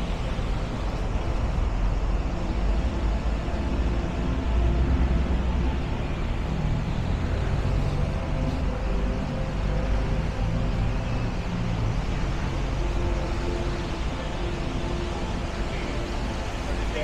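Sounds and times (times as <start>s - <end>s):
faint engine hum: 0.0s - 17.0s
traffic rumble: 0.0s - 17.0s.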